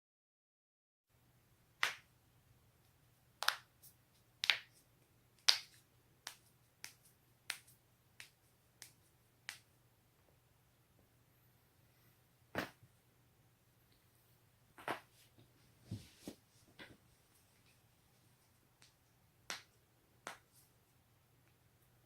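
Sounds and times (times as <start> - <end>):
faint steady hum: 1.1 - 22.0.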